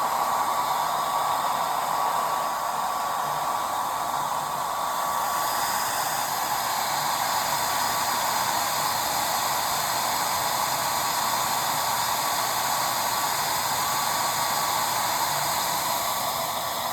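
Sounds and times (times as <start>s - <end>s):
hair dryer blowing: 0.0s - 16.9s.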